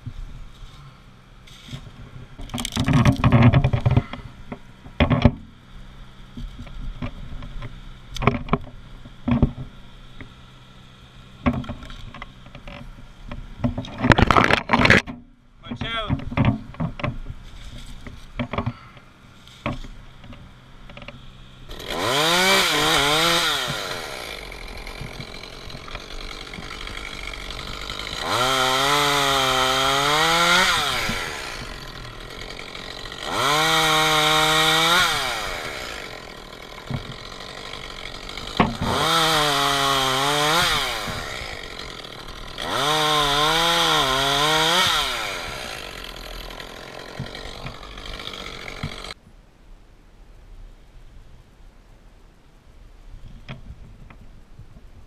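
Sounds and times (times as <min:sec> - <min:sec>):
chainsaw cutting wood: 0:01.5 - 0:49.2.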